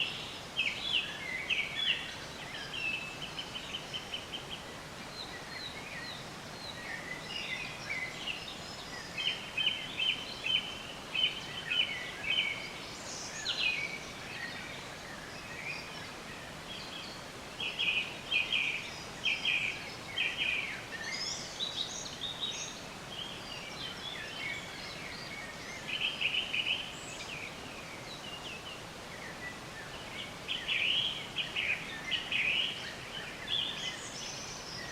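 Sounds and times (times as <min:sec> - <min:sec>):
background hiss: 0:00.0 - 0:34.9
songbirds chirping and singing: 0:00.0 - 0:34.9.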